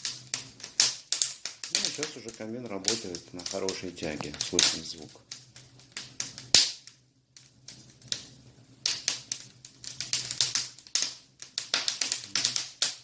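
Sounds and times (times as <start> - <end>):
low hum of chimney draft: 0.0 - 13.0
wood fire crackling and popping: 0.0 - 13.0.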